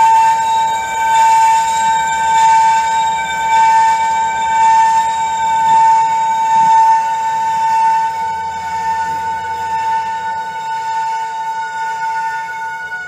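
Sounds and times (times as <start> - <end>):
diesel locomotive rumble: 0.0 - 13.0
high-pitched drone: 0.0 - 13.0.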